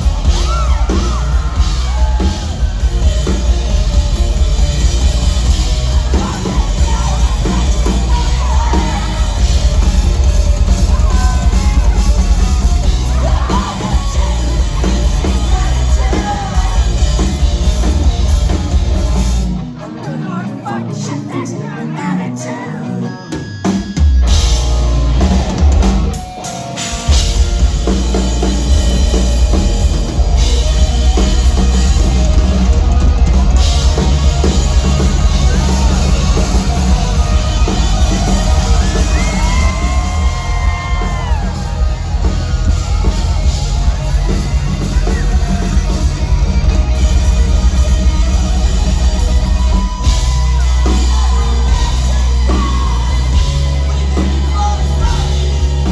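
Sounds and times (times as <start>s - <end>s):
rock band playing loud: 0.0s - 55.9s.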